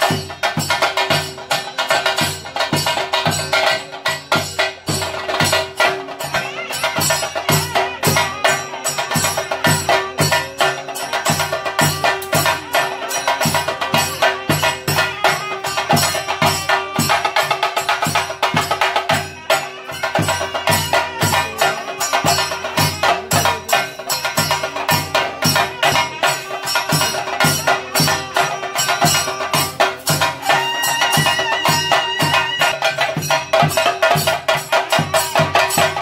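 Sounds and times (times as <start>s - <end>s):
fast drum strokes: 0.0s - 36.0s.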